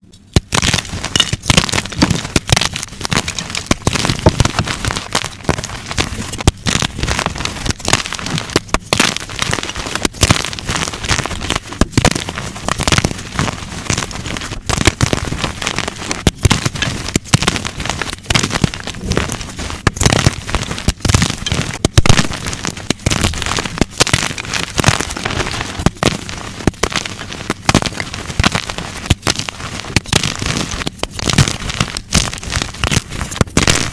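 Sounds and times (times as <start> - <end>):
chalk blocks crunching by hand: 0.2 - 33.9.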